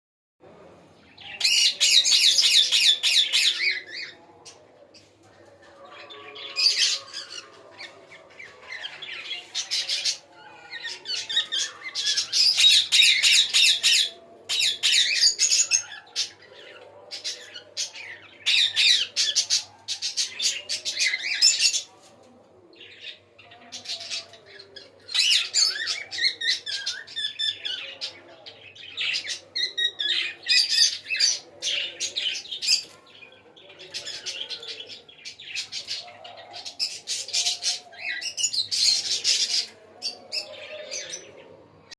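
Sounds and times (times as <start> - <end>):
pet birds squawking and chirping: 1.1 - 4.6, 5.9 - 22.0, 22.8 - 41.9.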